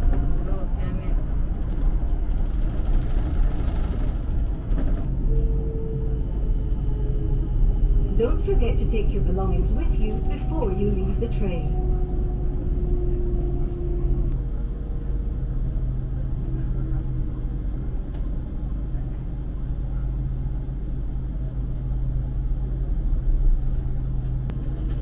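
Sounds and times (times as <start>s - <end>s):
train rumble and hum: 0.0s - 25.0s.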